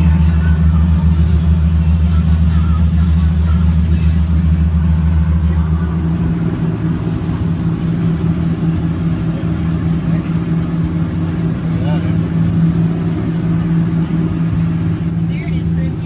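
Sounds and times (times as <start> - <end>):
boat diesel engines droning: 0.0 - 16.0.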